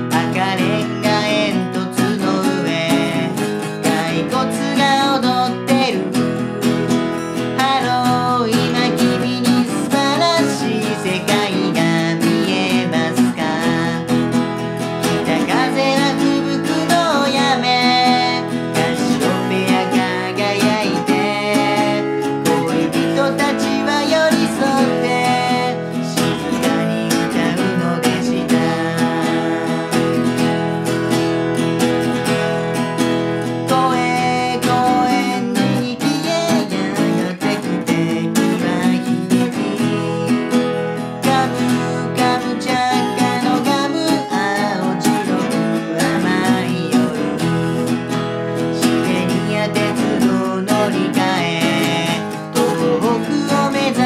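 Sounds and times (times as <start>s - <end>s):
man singing: 0.0s - 31.1s, 32.2s - 54.0s
acoustic guitar strumming: 0.0s - 54.0s.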